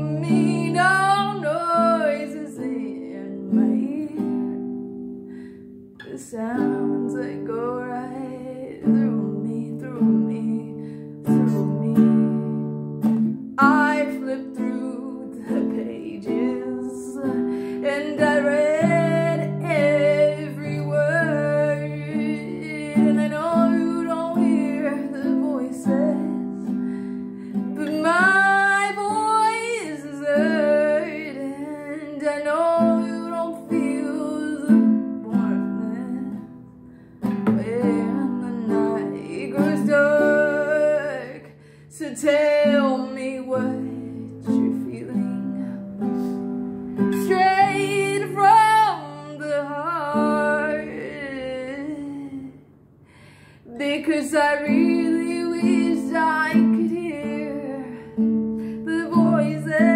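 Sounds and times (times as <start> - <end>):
woman singing slow melody: 0.0 - 5.0, 5.9 - 36.7, 37.3 - 52.6, 53.6 - 59.9
acoustic guitar: 0.0 - 59.9.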